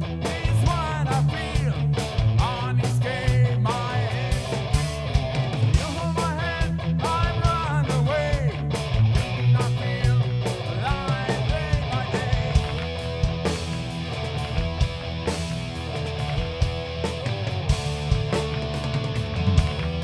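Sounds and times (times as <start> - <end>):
bass guitar: 0.0 - 20.0
drum kit: 0.0 - 20.0
electric guitars: 0.0 - 20.0.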